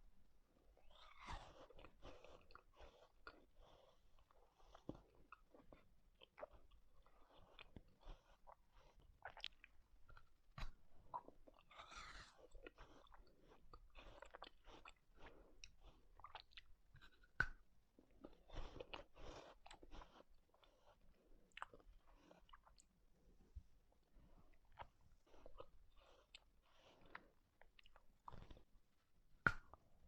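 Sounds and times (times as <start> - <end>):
chewing and wet smacking: 0.8 - 3.6, 4.2 - 23.0, 24.5 - 28.7.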